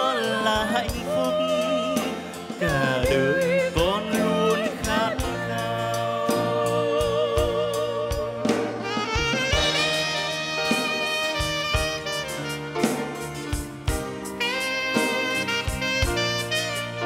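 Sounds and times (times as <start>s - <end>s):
live band playing slow ballad: 0.0s - 17.0s.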